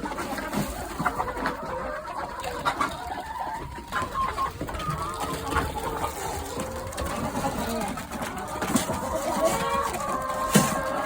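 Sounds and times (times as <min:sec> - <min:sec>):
farmyard birds calling: 0:00.0 - 0:11.0.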